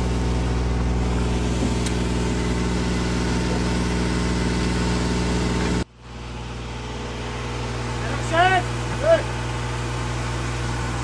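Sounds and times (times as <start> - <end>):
heavy engine idling: 0.0 - 11.0
quieter engine: 0.0 - 11.0.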